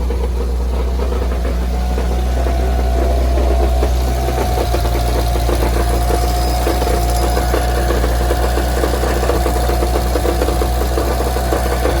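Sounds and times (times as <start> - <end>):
car engine idling: 0.0 - 12.0
rapid metallic rattling and knocking: 0.0 - 12.0.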